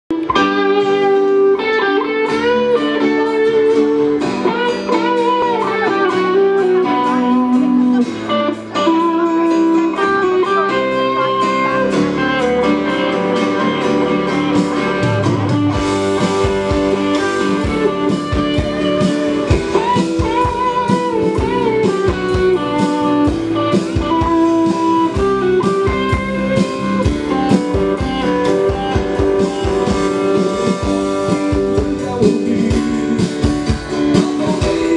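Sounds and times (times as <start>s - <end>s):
bass: 0.1s - 34.9s
electric guitar melody: 0.1s - 34.9s
keyboard: 0.1s - 34.9s
drums and cymbals: 2.3s - 34.9s.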